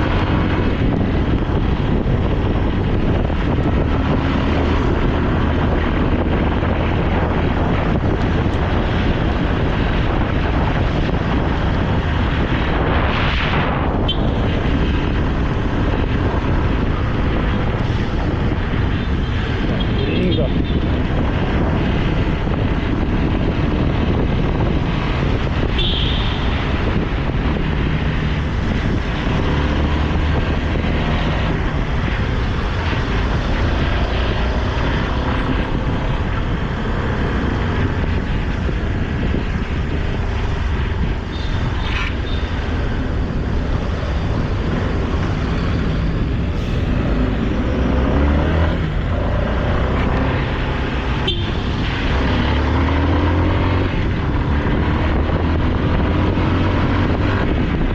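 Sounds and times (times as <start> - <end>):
loud rushing noise: 0.0 - 57.9
motorcycle engine drone: 0.0 - 57.9.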